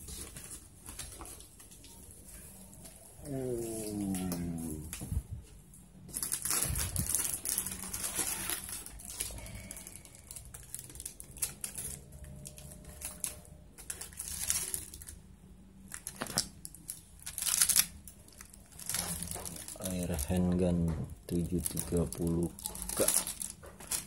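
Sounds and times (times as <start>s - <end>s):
plastic wrap crinkling: 0.0s - 24.0s.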